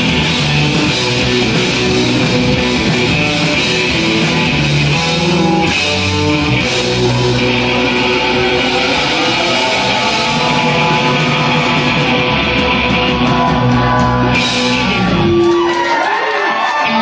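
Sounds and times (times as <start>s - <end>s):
ringing guitar tones: 0.0s - 15.6s
live rock band playing: 0.0s - 17.0s.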